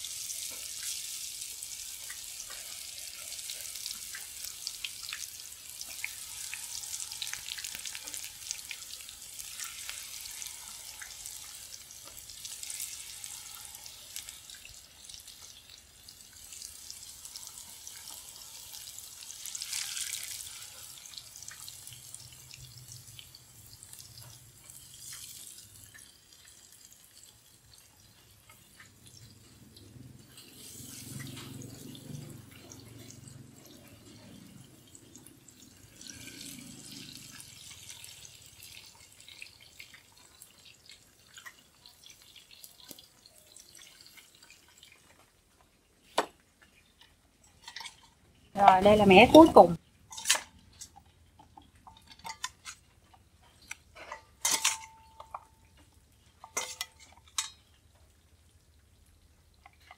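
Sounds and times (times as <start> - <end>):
deep-frying sizzle with pops: 0.0 - 59.9.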